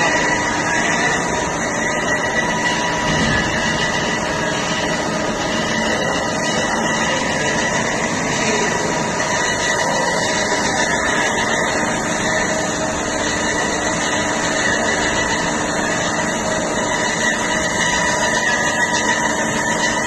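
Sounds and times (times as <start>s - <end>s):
band saw running: 0.0s - 20.0s.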